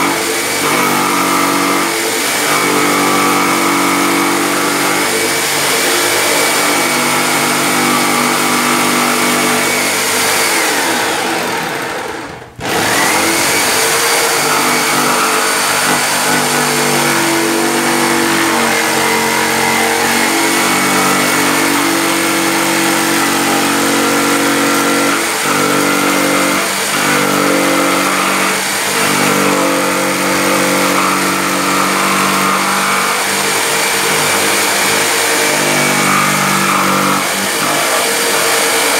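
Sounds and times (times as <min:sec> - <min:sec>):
electric jigsaw cutting: 0:00.0 - 0:38.9.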